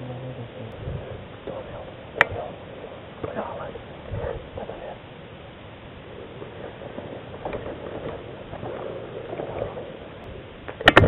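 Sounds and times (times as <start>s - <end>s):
sharp crack: 0.6s - 5.0s, 6.0s - 11.0s.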